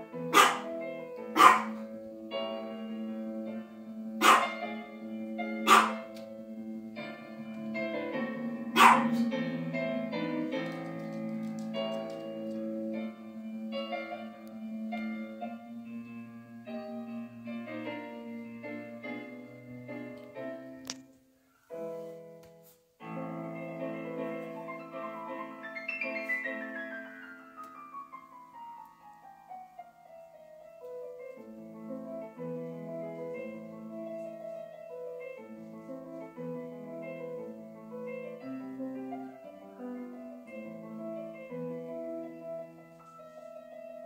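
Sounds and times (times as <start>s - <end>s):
solo piano music: 0.0s - 44.0s.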